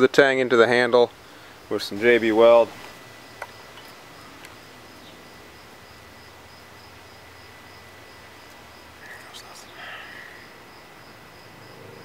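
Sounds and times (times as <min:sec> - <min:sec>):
outdoor background hiss: 0:00.0 - 0:12.0
insect chirping trill: 0:00.8 - 0:12.0.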